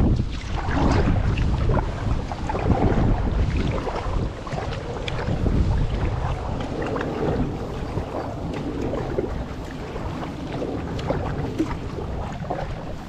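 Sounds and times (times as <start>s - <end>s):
water splashing around a kayak: 0.0s - 13.0s
wind rumbling on microphone: 0.0s - 13.0s.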